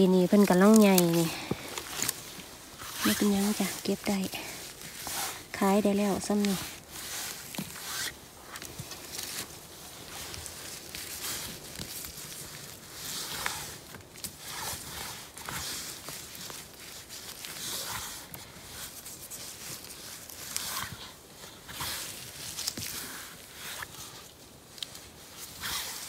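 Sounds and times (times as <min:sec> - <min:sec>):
footsteps on undergrowth: 0:00.0 - 0:26.0
soft rustling: 0:00.0 - 0:26.0.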